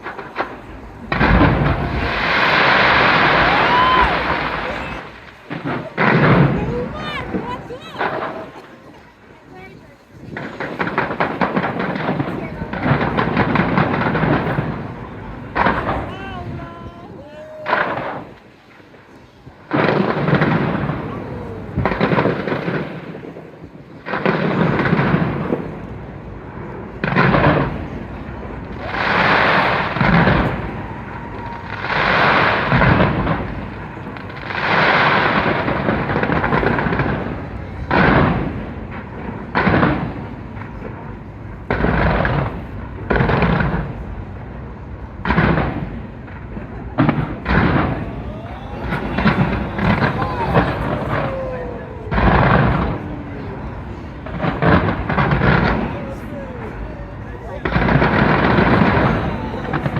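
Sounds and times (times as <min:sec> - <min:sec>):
fireworks booming: 0:00.0 - 0:59.9
fireworks crackling: 0:00.0 - 0:59.9
sharp fireworks bangs: 0:00.0 - 0:59.9.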